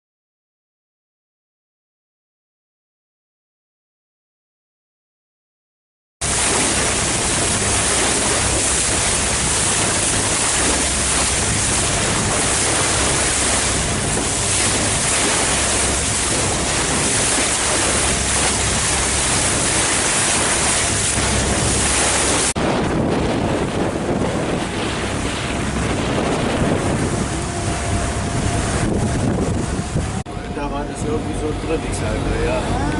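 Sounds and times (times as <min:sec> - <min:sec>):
wind buffeting microphone: 0:06.2 - 0:32.9.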